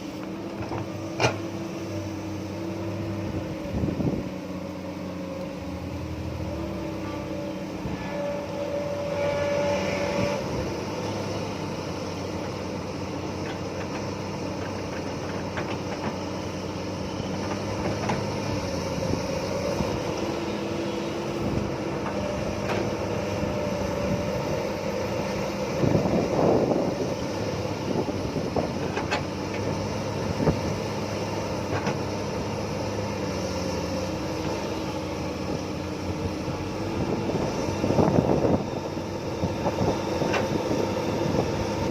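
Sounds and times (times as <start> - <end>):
excavator diesel engine running: 0.0 - 41.9
hydraulic whines: 0.0 - 41.9.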